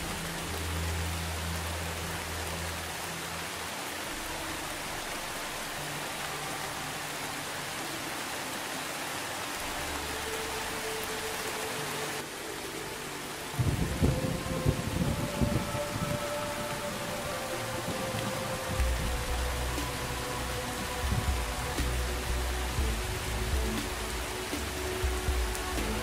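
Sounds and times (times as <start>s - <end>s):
rain on leaves and grass: 0.0s - 26.0s.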